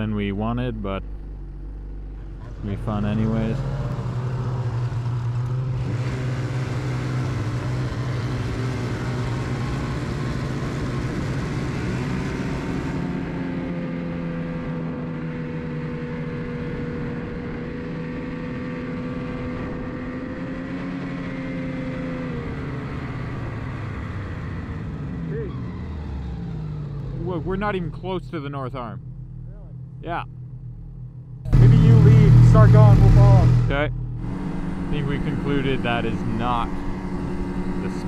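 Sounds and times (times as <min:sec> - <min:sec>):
snowmobile engine running: 0:00.0 - 0:38.0.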